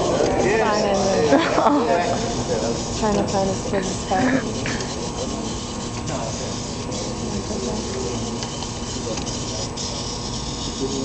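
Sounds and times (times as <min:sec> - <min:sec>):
faint chatter: 0:00.0 - 0:11.0
small motors whirring: 0:00.0 - 0:11.0.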